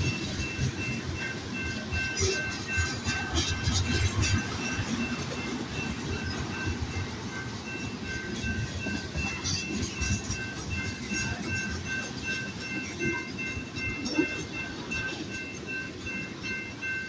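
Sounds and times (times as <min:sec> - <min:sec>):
crossing bell ringing: 0:00.0 - 0:17.0
freight train rumbling past: 0:00.0 - 0:17.0
wheels clattering over rail joints: 0:00.0 - 0:17.0.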